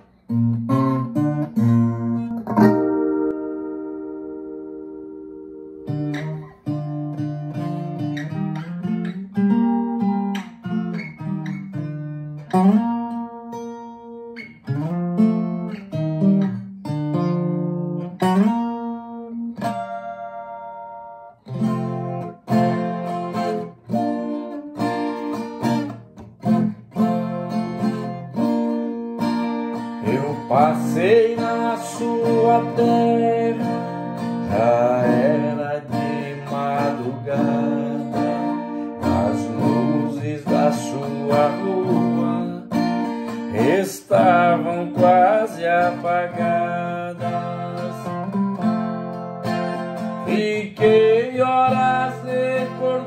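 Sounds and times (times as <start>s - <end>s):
classical guitar fingerstyle: 0.0s - 53.0s.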